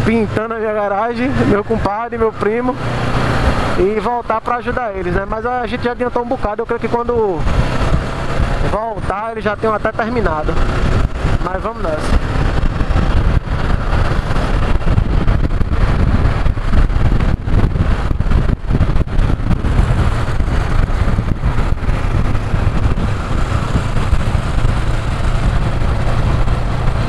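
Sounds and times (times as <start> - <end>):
motorcycle engine running: 0.0 - 27.0
wind buffeting microphone: 1.0 - 27.0.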